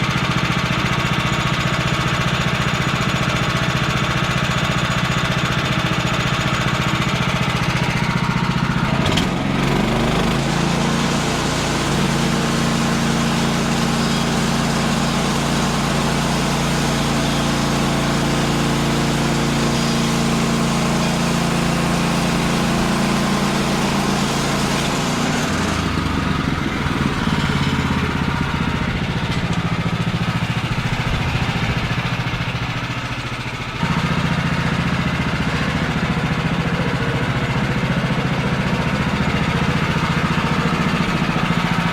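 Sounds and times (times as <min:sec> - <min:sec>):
bandsaw mill engine cutting wood: 0:00.0 - 0:41.9.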